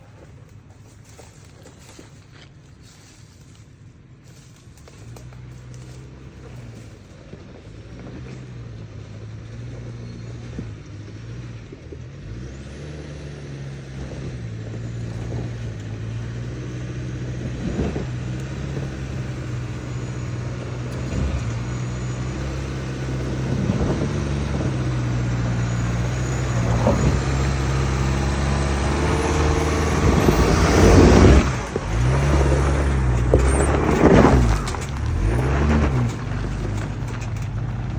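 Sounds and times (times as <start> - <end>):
truck engine under load: 0.0 - 37.9.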